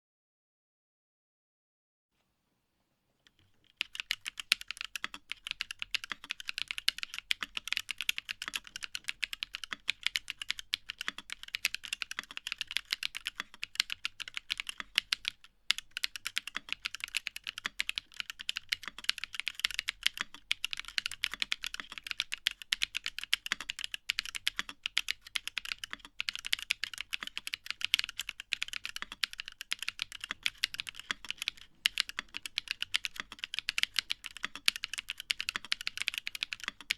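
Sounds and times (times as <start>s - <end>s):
rapid mechanical keyboard typing: 3.6s - 36.9s.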